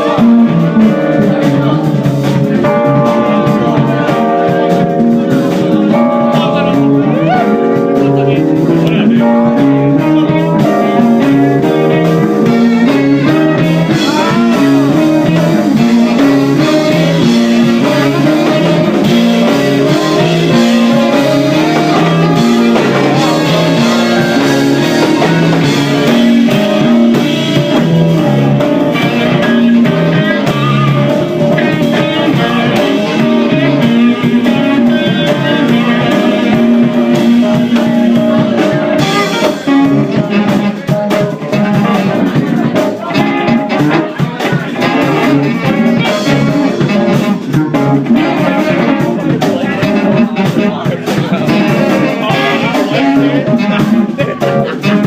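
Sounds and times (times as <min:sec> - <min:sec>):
drum kit: 0:00.0 - 0:55.0
guitar: 0:00.0 - 0:55.0
repeating bass line: 0:00.0 - 0:55.0.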